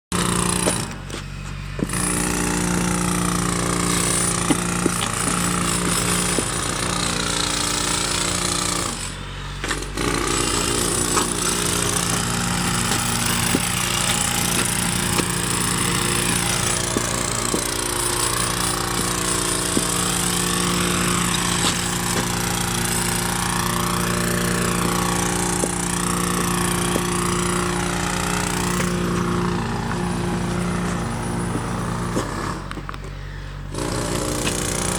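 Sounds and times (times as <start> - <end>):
motor humming: 0.2 - 34.9.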